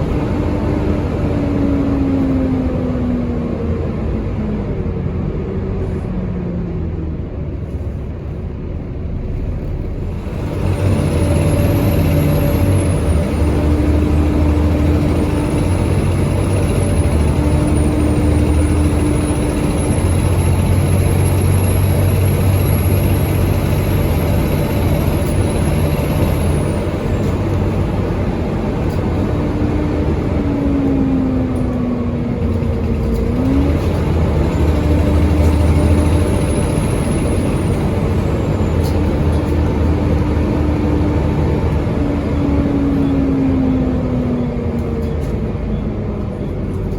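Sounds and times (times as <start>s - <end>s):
bus diesel engine under load: 0.0s - 46.9s.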